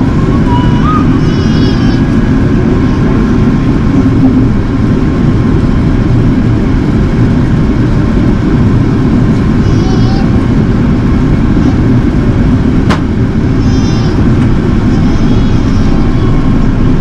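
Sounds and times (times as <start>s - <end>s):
aircraft cabin engine rumble: 0.0s - 17.0s.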